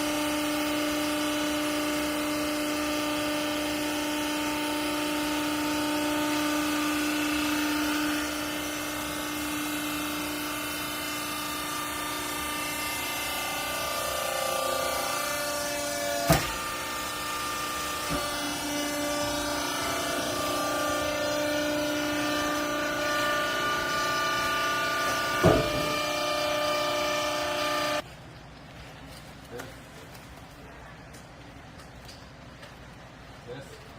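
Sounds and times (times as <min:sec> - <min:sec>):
hydraulic baler motor whining: 0:00.0 - 0:28.0.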